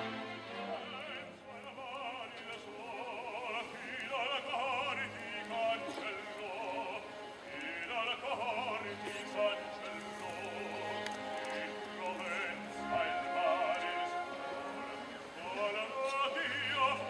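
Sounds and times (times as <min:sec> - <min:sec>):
opera singer with wide vibrato: 0:00.0 - 0:17.0
orchestral accompaniment: 0:00.0 - 0:17.0.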